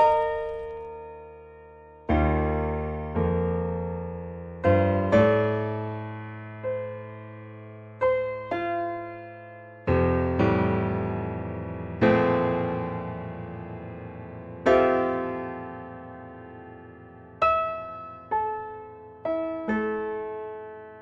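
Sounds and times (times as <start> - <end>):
slow solo piano music: 0.0 - 21.0.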